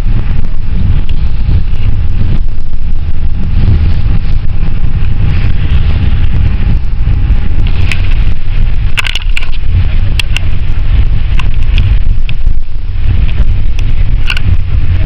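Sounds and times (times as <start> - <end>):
van engine and tyres rumbling: 0.0 - 15.0
wind buffeting microphone: 0.0 - 15.0.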